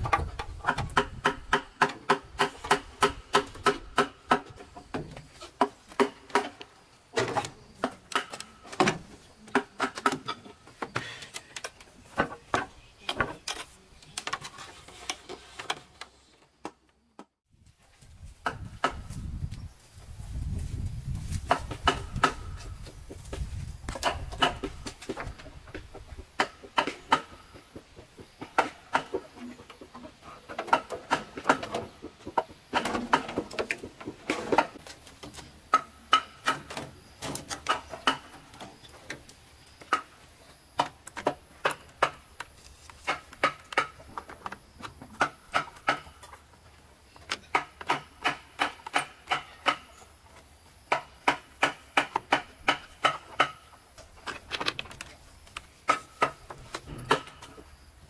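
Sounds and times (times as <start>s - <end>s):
hand tool striking wood: 0.0s - 15.8s, 18.4s - 19.2s, 21.3s - 29.6s, 30.5s - 39.2s, 40.8s - 46.4s, 47.2s - 50.0s, 50.9s - 53.8s, 55.8s - 57.6s.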